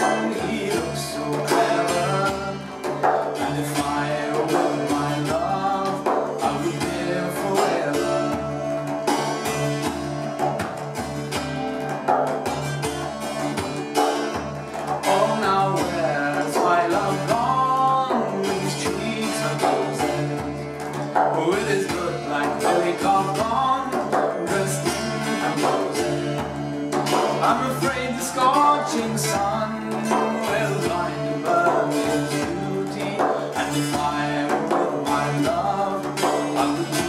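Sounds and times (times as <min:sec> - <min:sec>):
wordless vocal line: 0:00.0 - 0:10.4, 0:15.0 - 0:37.0
bouzouki strummed and picked: 0:00.0 - 0:37.0
frame drum struck by hand: 0:00.0 - 0:37.0.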